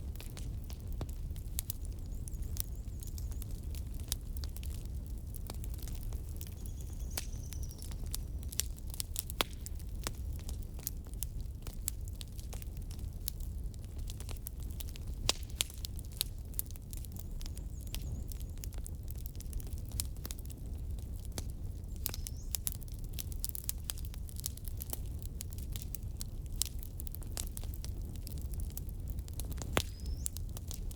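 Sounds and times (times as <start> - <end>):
low rumble of fire: 0.0 - 30.9
wood fire crackling and popping: 0.0 - 30.9.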